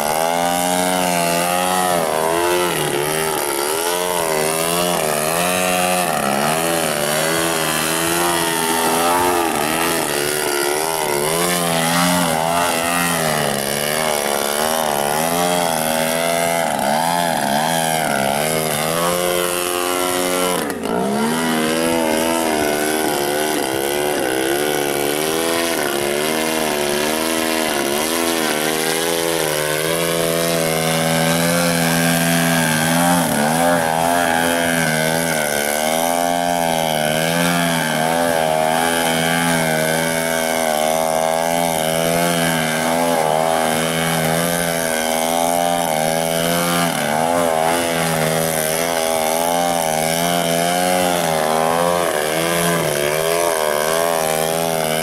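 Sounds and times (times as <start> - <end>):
model plane engine revving: 0.0 - 55.0.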